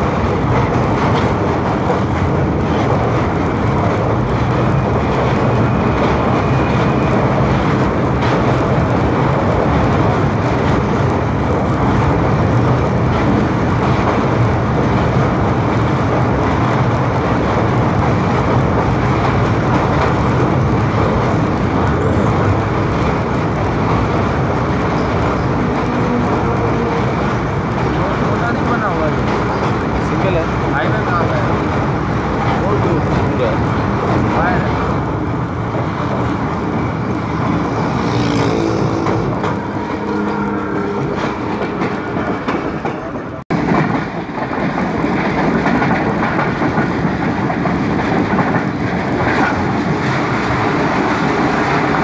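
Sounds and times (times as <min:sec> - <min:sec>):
train wheels rumbling on bridge: 0:00.0 - 0:52.0.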